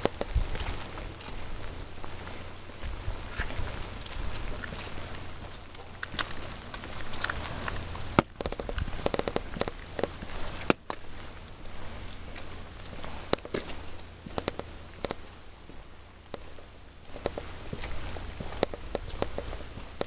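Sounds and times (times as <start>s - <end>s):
footsteps on wet ground: 0.0s - 20.0s
rain falling: 0.0s - 20.0s
raindrops tapping close by: 0.0s - 20.0s.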